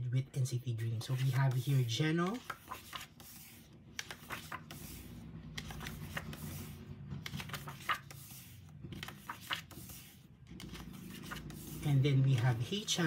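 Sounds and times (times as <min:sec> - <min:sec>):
book pages turning: 0:00.9 - 0:13.0.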